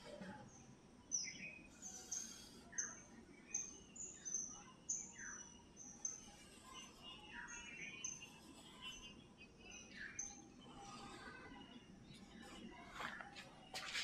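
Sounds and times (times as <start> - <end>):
small bird chirping: 1.1 - 13.4.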